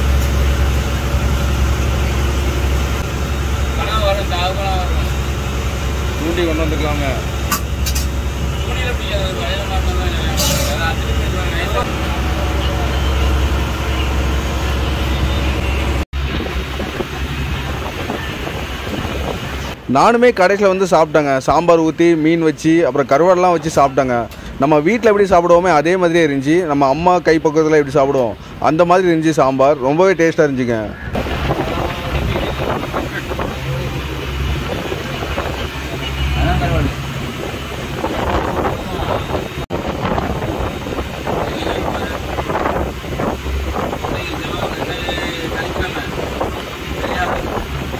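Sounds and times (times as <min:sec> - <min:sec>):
boat engine droning: 0:00.0 - 0:47.9
wind and sea noise: 0:00.0 - 0:47.9.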